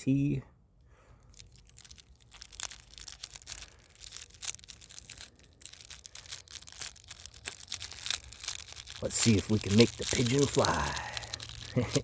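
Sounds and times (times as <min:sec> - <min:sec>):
paper and cellophane crinkling: 0:01.3 - 0:12.0.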